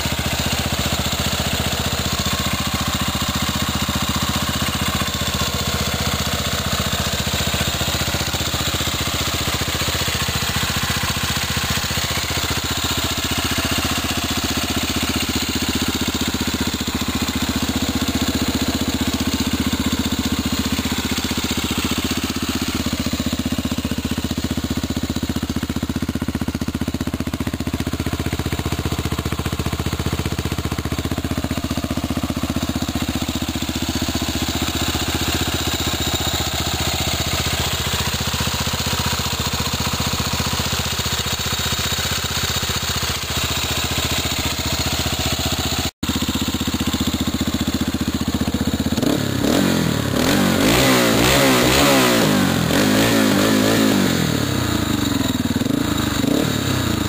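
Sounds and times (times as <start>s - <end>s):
atv engine idling: 0.0s - 57.0s.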